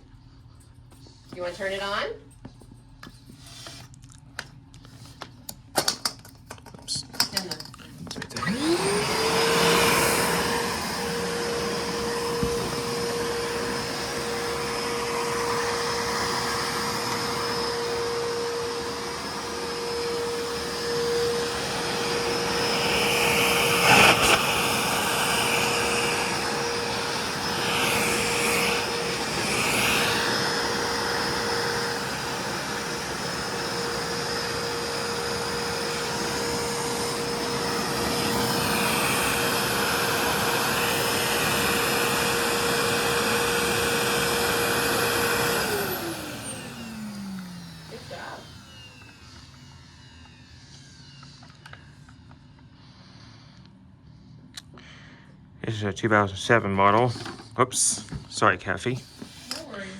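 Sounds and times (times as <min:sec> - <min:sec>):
vacuum cleaner running: 0:01.3 - 0:02.1, 0:07.2 - 0:53.6, 0:55.8 - 0:59.9.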